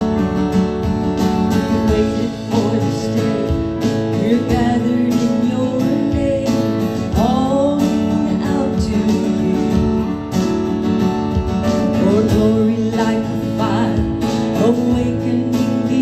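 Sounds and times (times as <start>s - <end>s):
strummed acoustic guitar: 0.0s - 16.0s
worship band music: 0.0s - 16.0s.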